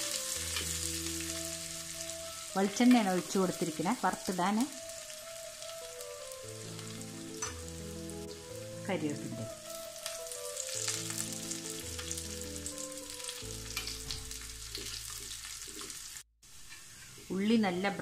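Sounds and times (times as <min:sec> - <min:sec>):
seeds and shallots sizzling in oil: 0:00.0 - 0:18.0.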